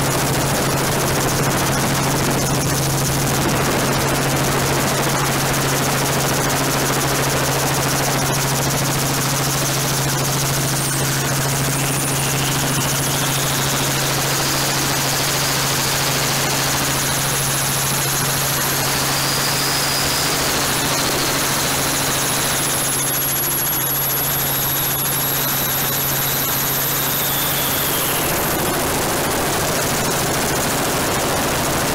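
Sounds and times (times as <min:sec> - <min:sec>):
helicopter rotor and engine drone: 0:00.0 - 0:31.9
faint high whine: 0:00.2 - 0:31.4.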